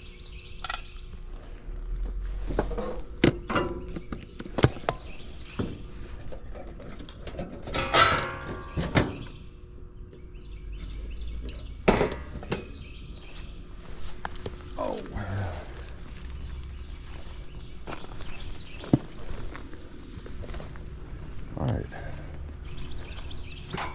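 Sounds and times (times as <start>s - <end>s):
birds chirping: 0.0s - 7.0s, 8.4s - 23.9s.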